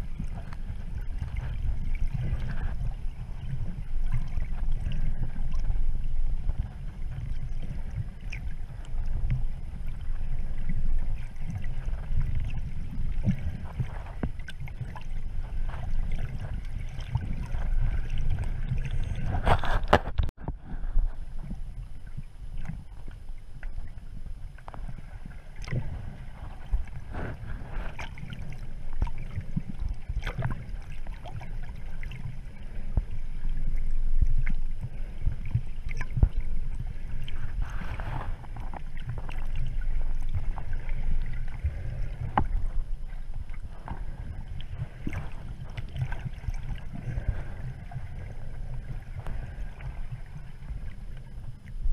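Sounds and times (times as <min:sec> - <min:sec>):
faint clicks and crackles: 0:00.0 - 0:51.9
underwater water rumble: 0:00.0 - 0:51.9.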